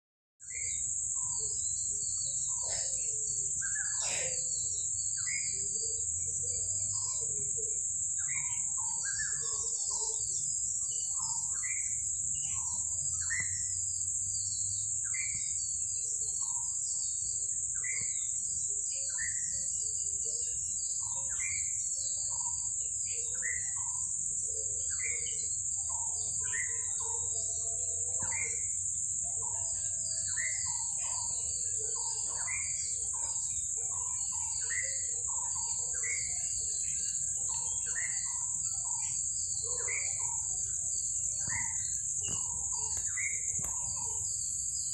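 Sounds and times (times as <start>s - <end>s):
birds chirping: 0.4s - 44.9s
high-pitched insect drone: 0.4s - 44.9s.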